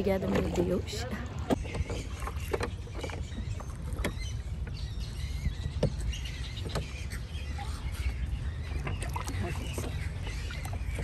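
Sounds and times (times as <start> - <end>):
oars splashing in water: 0.0 - 11.0.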